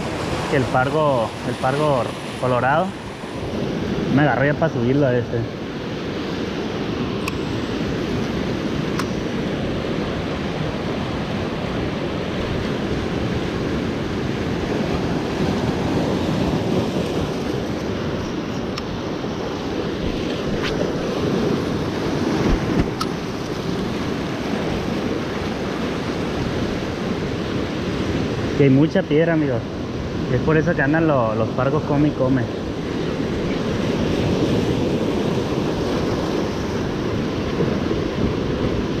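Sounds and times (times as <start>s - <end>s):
wind on microphone: 0.0s - 28.6s, 32.6s - 39.0s
surf washing over rocks: 0.0s - 39.0s.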